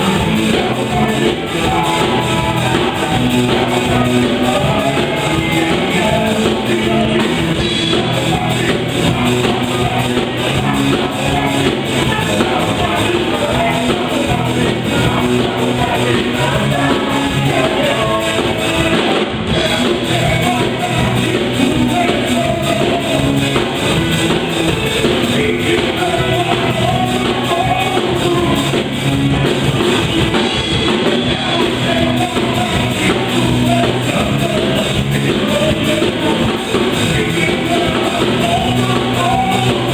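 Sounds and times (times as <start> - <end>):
band playing upbeat song: 0.0 - 39.9
drum kit: 0.0 - 39.9
guitar: 0.0 - 39.9
person singing: 0.0 - 39.9.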